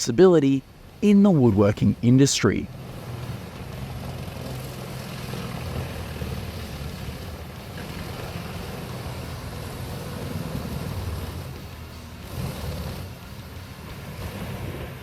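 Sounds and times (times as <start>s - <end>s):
diesel grinder droning: 2.7s - 15.0s.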